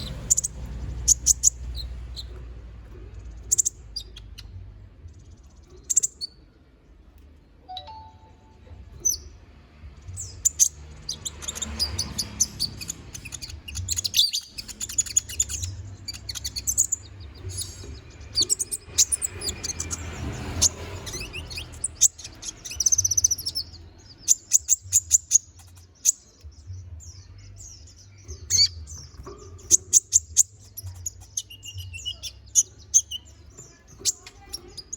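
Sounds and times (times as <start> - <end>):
sunbird chirping and trilling: 0.0 - 2.4, 3.2 - 4.6, 5.4 - 6.6, 7.7 - 9.4, 10.0 - 34.9.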